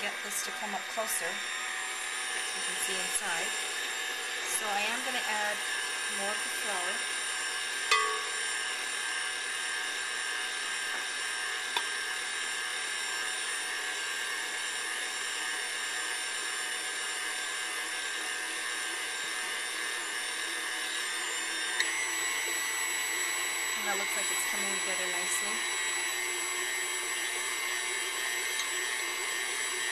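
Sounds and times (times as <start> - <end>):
stand mixer motor whining: 0.0 - 29.9.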